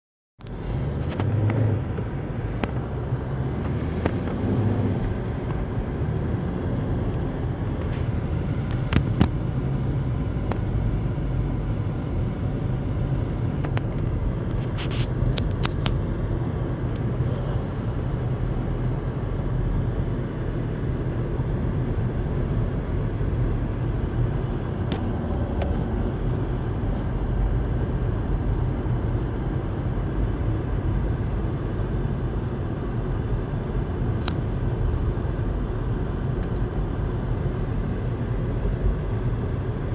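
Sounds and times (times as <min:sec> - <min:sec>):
car engine and tyre rumble: 0:00.4 - 0:39.9.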